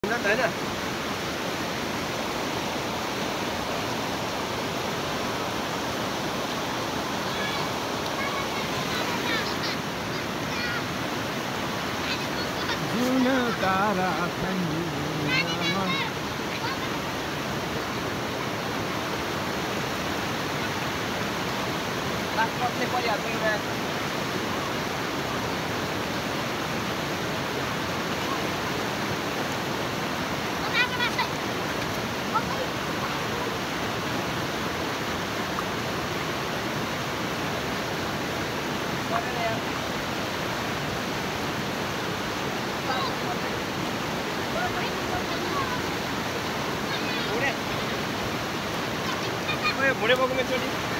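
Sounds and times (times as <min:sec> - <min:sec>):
river rushing over rocks: 0:00.0 - 0:50.9.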